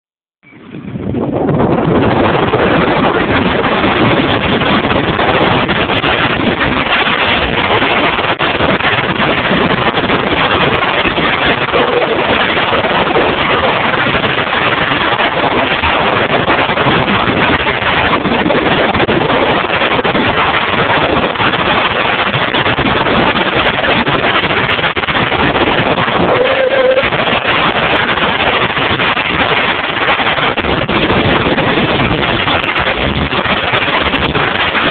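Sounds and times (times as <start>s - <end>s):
wind buffeting microphone: 0.4s - 34.9s.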